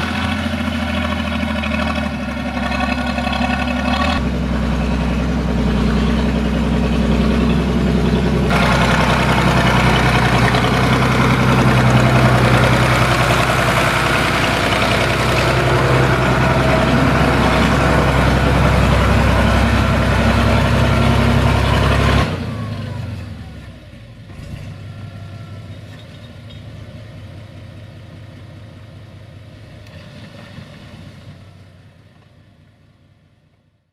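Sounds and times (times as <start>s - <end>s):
tractor diesel engine running: 0.0s - 33.3s.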